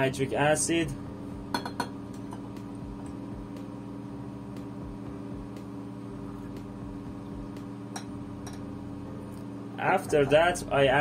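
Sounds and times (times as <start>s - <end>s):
exhaust fan humming: 0.0s - 11.0s.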